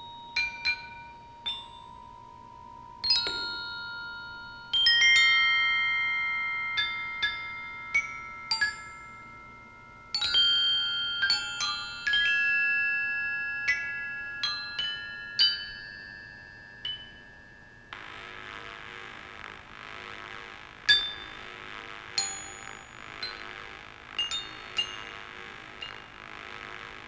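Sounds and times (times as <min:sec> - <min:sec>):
glockenspiel notes: 0:00.0 - 0:02.3, 0:03.0 - 0:18.0, 0:22.2 - 0:27.0.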